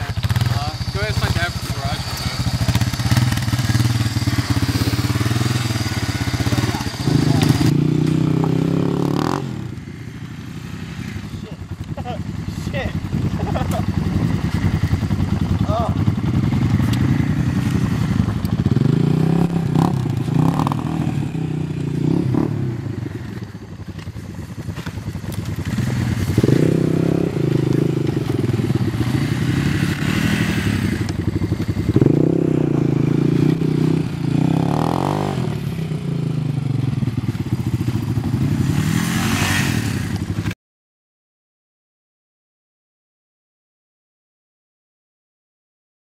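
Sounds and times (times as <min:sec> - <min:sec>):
quad bike engine revving: 0:00.0 - 0:40.6.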